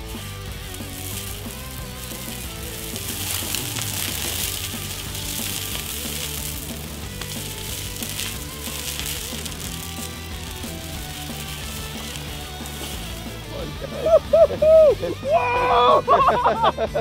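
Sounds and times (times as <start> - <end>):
thermite fizzing hiss: 0.0 - 16.5
background music: 0.0 - 17.0.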